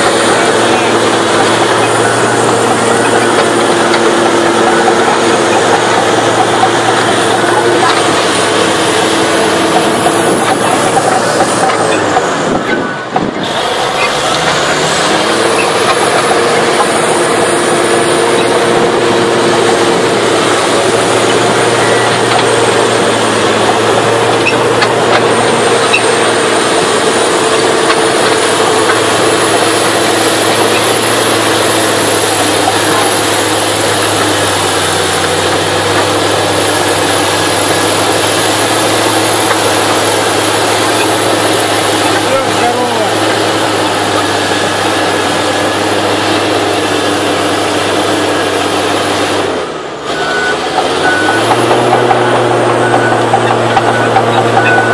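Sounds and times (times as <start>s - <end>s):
bulldozer diesel engine droning: 0.0s - 54.9s
high engine whine: 0.0s - 54.9s.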